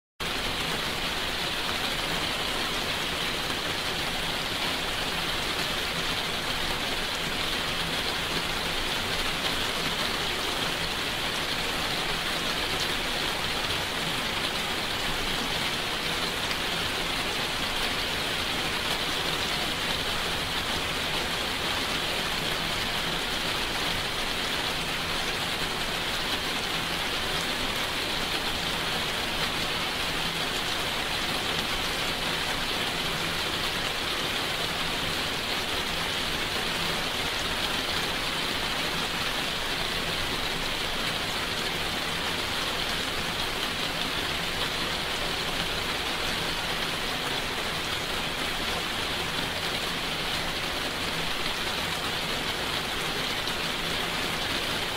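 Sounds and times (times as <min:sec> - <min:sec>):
steady rainfall: 0:00.2 - 0:54.9.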